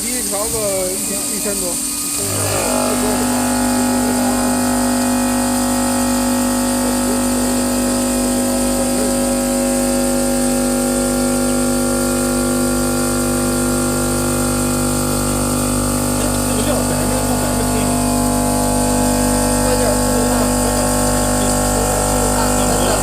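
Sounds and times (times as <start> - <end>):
spindle motor whining: 0.0 - 23.0.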